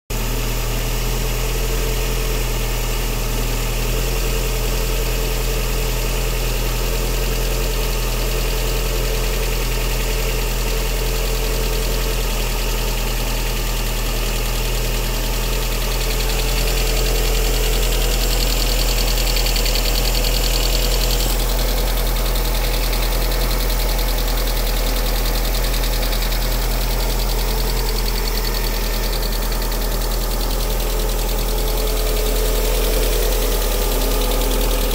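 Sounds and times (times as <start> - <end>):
car engine idling with rapid knock: 0.1 - 34.9.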